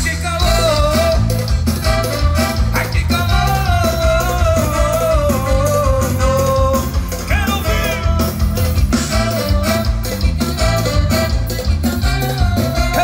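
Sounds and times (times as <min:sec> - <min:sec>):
live band music over loudspeakers: 0:00.0 - 0:13.0.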